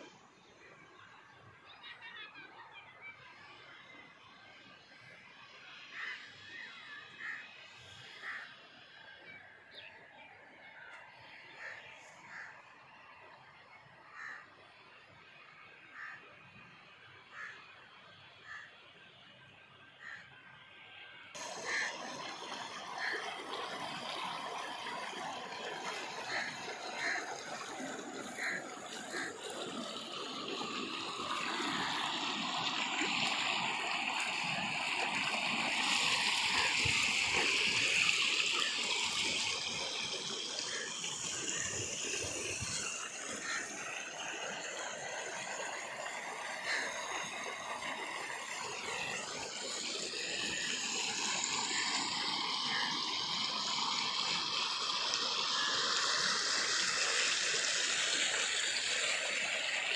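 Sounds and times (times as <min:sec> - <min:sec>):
fast water rushing in channel: 0:00.0 - 0:59.9.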